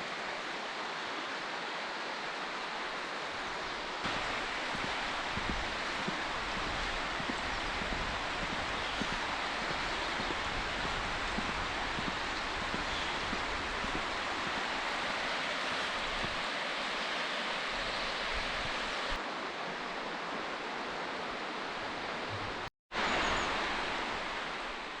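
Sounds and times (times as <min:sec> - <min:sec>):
steady outdoor rushing noise: 0:01.6 - 0:25.0.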